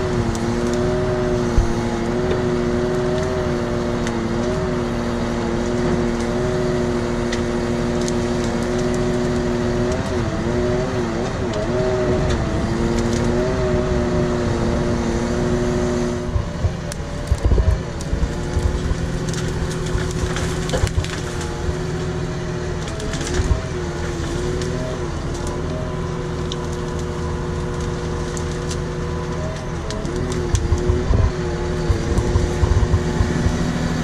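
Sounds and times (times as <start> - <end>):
grapple crushing and snapping brushwood: 0.0 - 34.0
tractor engine and hydraulics humming: 0.0 - 34.0.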